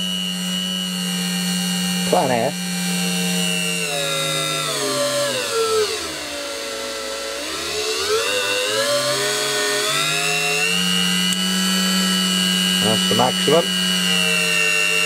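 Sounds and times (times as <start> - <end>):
rotary multitool whining: 0.0 - 15.0.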